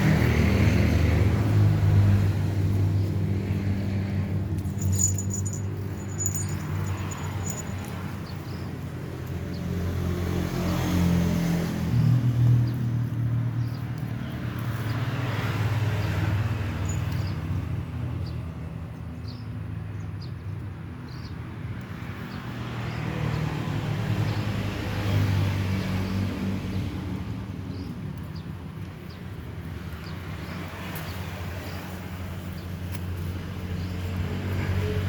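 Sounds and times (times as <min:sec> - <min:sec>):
vehicles passing by: 0:00.0 - 0:35.0.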